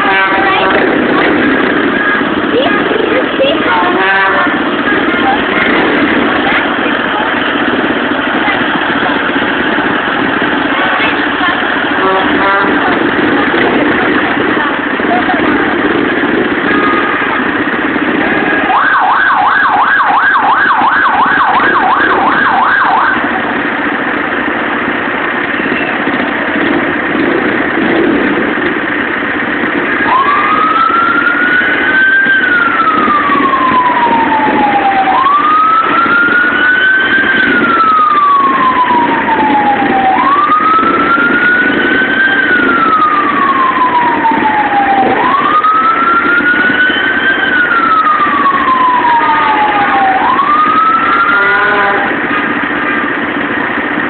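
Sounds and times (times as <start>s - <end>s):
emergency vehicle siren: 0.0s - 54.0s
street hum: 0.0s - 54.0s.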